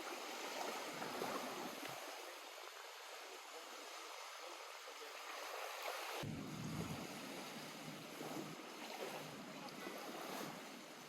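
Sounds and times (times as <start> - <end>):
lake water lapping at shore: 0.0 - 11.0.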